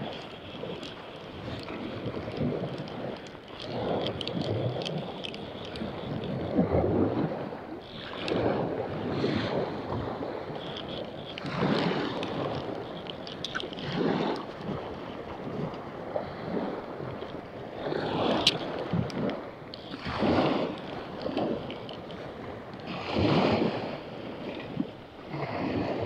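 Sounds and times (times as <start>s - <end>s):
small ticks: 0.0s - 6.7s, 7.8s - 24.7s
wind buffeting microphone: 0.0s - 26.0s.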